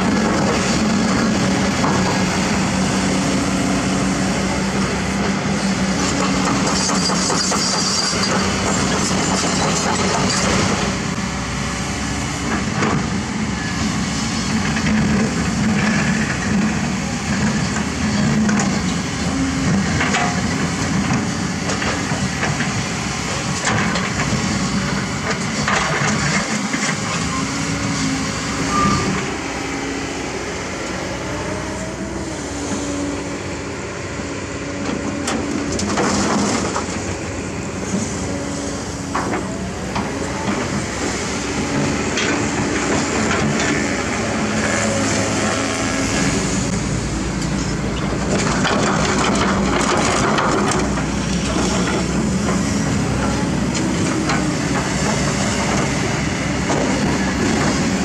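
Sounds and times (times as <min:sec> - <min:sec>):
excavator diesel engines droning: 0:00.0 - 0:58.0.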